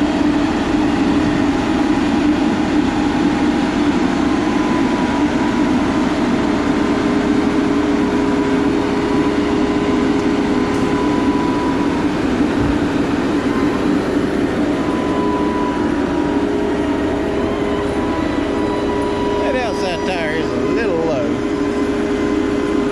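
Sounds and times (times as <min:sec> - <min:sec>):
faint steady whine: 0:00.0 - 0:22.9
heavy truck engine and road noise: 0:00.0 - 0:22.9.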